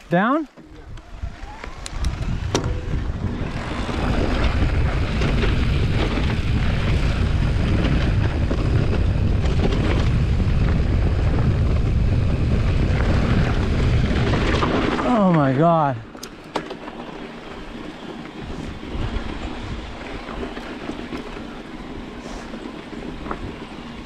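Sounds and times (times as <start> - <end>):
wind buffeting microphone: 0.0 - 15.6, 17.0 - 24.0
bike tyres rumbling on gravel: 0.1 - 24.0.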